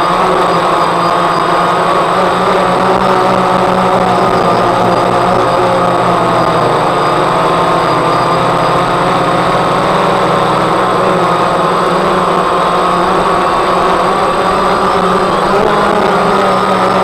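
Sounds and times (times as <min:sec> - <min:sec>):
drone motors buzzing hum: 0:00.0 - 0:17.0.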